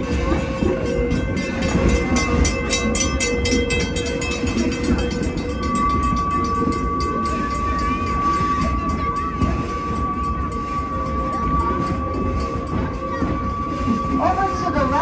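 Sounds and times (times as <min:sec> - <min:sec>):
steady high tone: 0:00.0 - 0:15.0
steam locomotive chuffing: 0:00.0 - 0:15.0
train rumbling on rails: 0:00.0 - 0:15.0.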